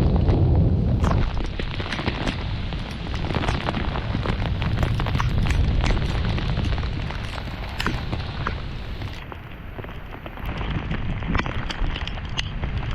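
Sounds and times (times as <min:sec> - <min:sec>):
low rumble of thunder: 0:00.0 - 0:11.2
rain pelting camera: 0:00.0 - 0:12.9.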